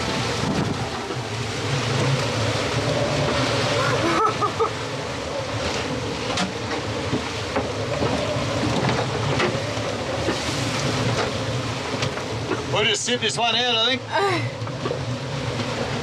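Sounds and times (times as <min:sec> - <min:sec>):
wind buffeting microphone: 0:00.0 - 0:13.3
sea noise: 0:00.0 - 0:16.0
strong wind: 0:00.0 - 0:16.0.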